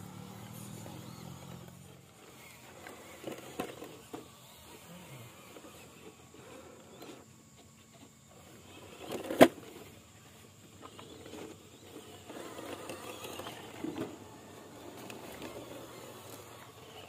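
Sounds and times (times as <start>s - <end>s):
toy truck motor and gear hum: 0.0s - 17.0s.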